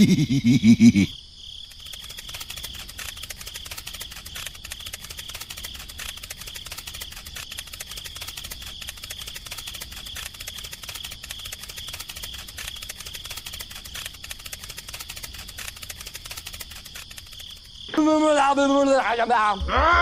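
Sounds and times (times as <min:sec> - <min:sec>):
insect chorus trilling: 0:00.0 - 0:20.0.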